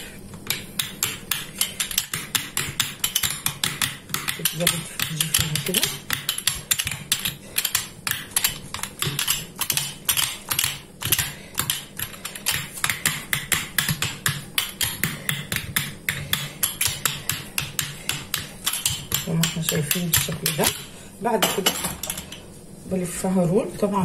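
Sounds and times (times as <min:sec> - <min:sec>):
rolling pin clicking over dough: 0:00.0 - 0:22.3.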